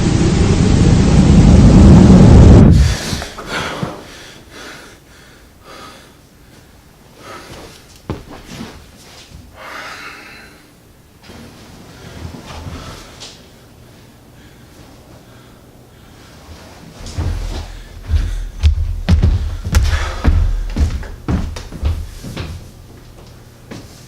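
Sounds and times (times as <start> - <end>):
loud static white noise: 0.0 - 7.6, 9.6 - 24.0.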